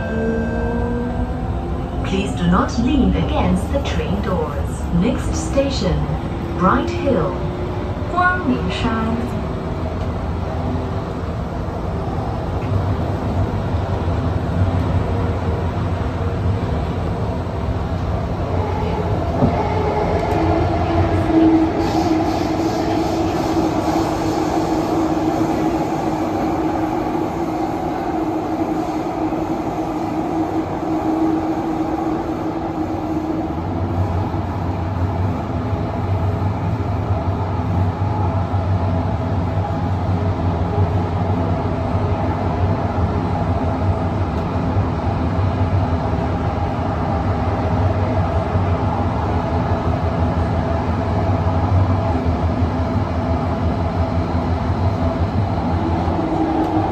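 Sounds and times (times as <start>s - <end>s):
metro train interior running noise: 0.0s - 56.9s.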